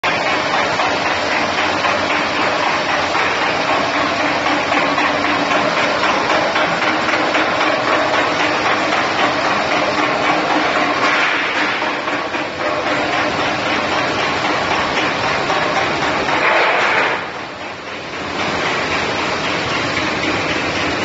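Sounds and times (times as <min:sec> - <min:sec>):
loud steady machine noise: 0:00.0 - 0:21.0.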